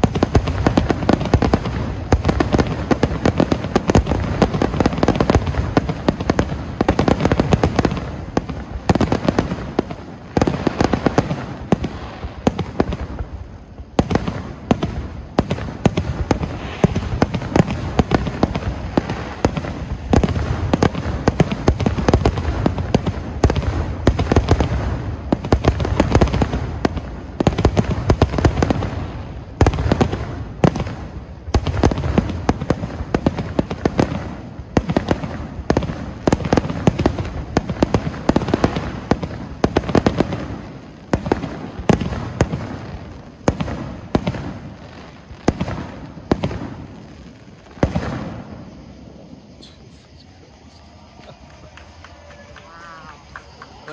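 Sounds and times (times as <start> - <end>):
fireworks bursting: 0.0 - 53.9.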